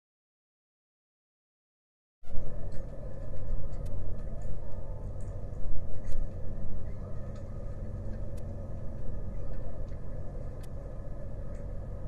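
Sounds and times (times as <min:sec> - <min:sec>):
faint hum: 0:02.2 - 0:12.0
low rumble: 0:02.3 - 0:12.0.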